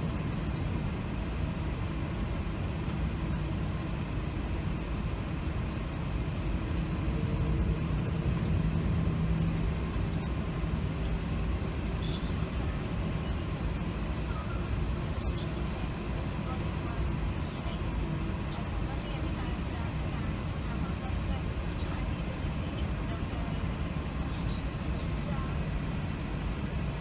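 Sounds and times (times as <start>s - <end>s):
faint hum: 0.0s - 27.0s
low aircraft cabin rumble: 0.0s - 27.0s.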